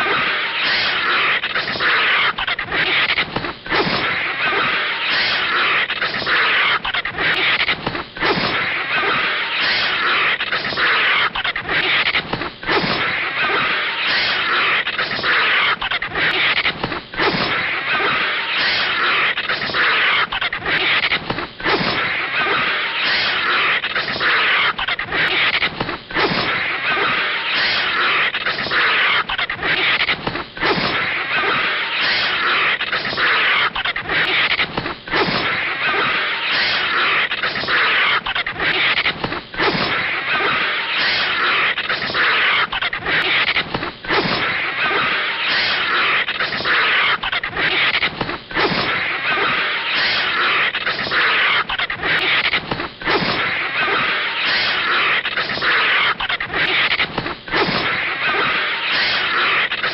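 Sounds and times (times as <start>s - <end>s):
cartoon hissing and scraping: 0.0s - 59.9s.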